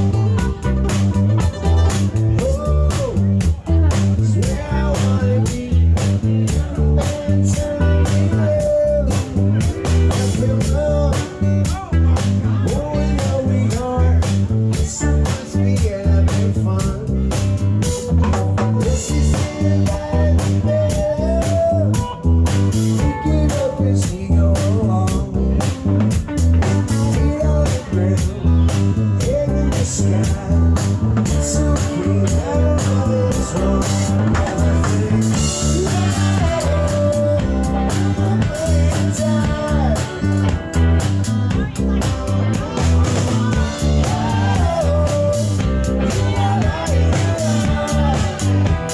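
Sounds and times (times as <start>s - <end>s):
bending melody line: 0.0s - 48.9s
drum kit beat: 0.0s - 48.9s
electric bass: 0.0s - 48.9s
guitars: 0.0s - 48.9s.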